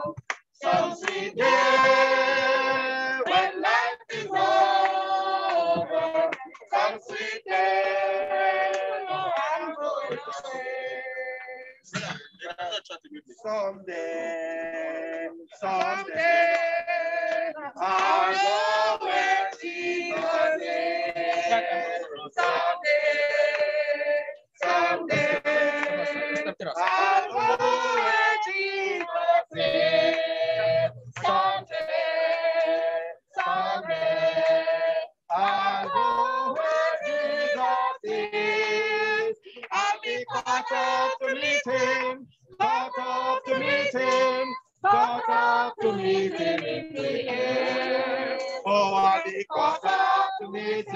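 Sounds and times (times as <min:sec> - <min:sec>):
group singing: 0:00.0 - 0:12.2, 0:13.4 - 0:50.9.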